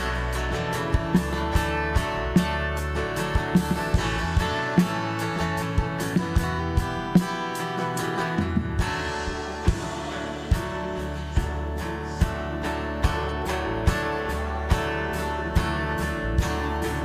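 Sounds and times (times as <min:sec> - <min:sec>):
bass and steady beat: 0:00.0 - 0:17.0
instrumental worship band music: 0:00.0 - 0:17.0.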